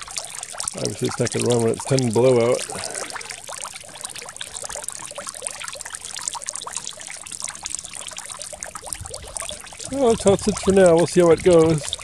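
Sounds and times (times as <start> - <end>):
fountain water trickling and splashing: 0.0 - 12.0.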